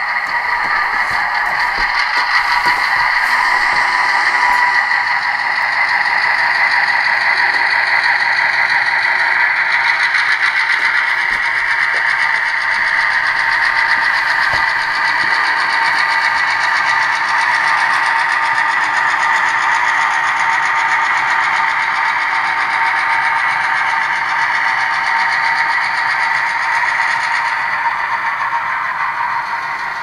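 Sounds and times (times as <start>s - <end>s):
model locomotive diesel engine: 0.0s - 30.0s.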